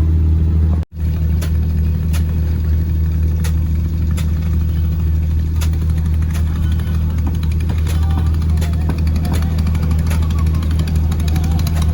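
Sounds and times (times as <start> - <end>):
boat engine droning: 0.0 - 11.9.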